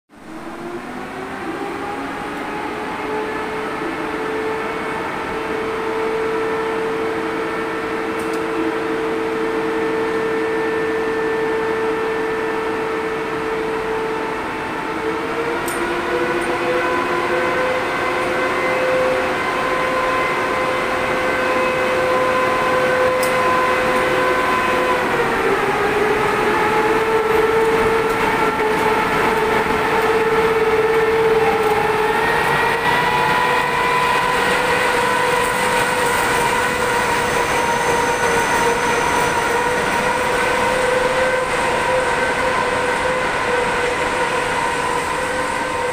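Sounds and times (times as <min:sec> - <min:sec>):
electric locomotive whine: 0:00.1 - 0:45.9.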